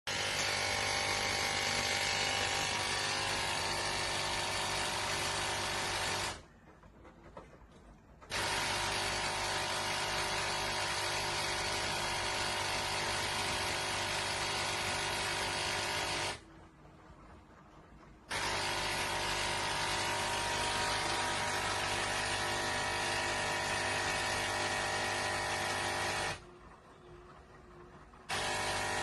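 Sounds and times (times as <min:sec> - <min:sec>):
motor whirring and buzzing: 0:00.1 - 0:06.4, 0:08.3 - 0:16.4, 0:18.3 - 0:26.4, 0:28.0 - 0:29.0.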